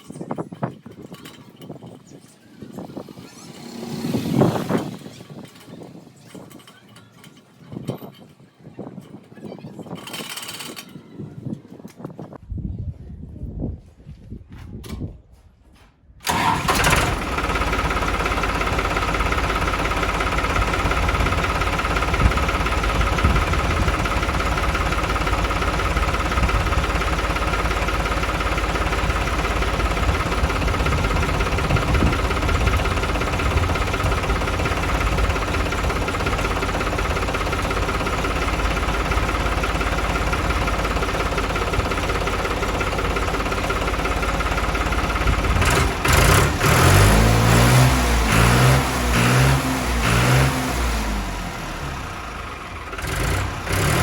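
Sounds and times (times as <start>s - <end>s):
tractor diesel engine running: 0.0s - 11.5s, 16.2s - 54.0s.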